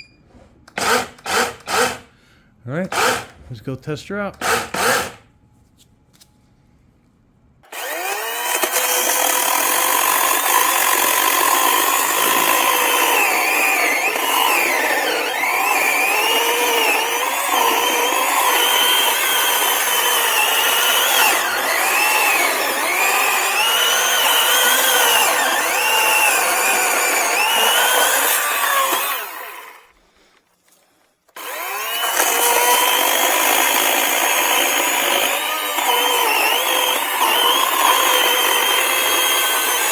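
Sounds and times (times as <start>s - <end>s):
electric chainsaw cutting wood: 0.8s - 2.0s, 2.9s - 3.4s, 7.6s - 30.0s, 31.4s - 39.9s.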